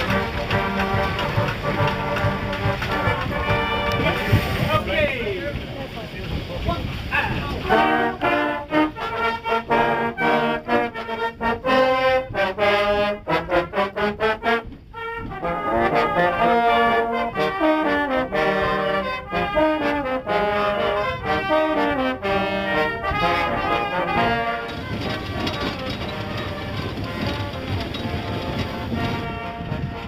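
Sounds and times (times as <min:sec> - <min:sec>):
brass band playing: 0:00.0 - 0:06.0, 0:07.1 - 0:30.0.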